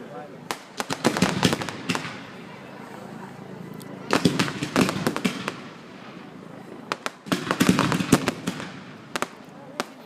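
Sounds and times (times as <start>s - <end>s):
fireworks bangs and crackles: 0.4s - 2.7s, 4.1s - 10.0s.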